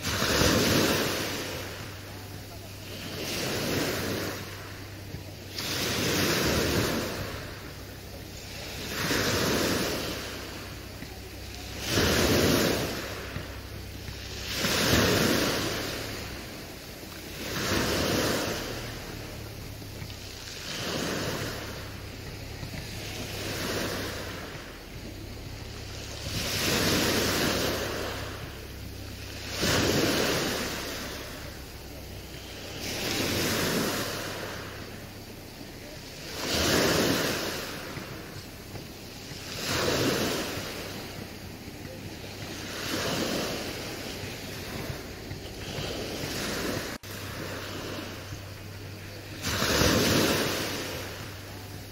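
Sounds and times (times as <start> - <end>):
low steady hum: 0.0 - 51.9
swells of rushing noise: 0.0 - 51.9.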